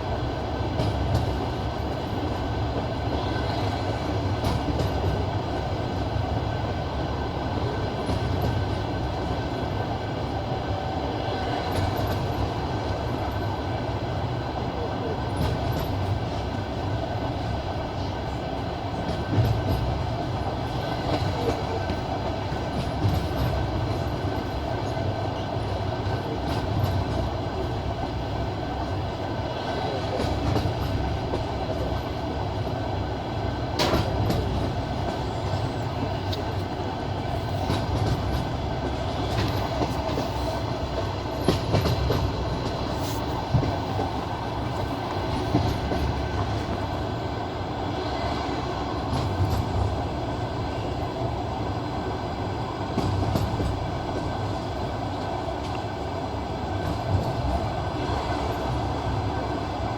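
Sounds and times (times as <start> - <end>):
clickety-clack of rail joints: 0.0 - 59.9
train wheels rumbling on rails: 0.0 - 59.9.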